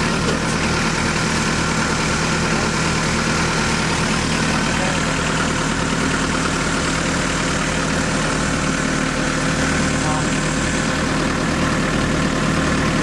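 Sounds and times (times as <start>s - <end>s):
diesel tractor engine idling: 0.0s - 13.0s.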